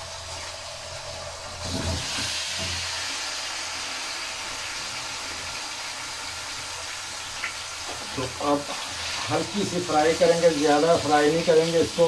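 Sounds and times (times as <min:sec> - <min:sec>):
meat sizzling: 0:00.0 - 0:12.0.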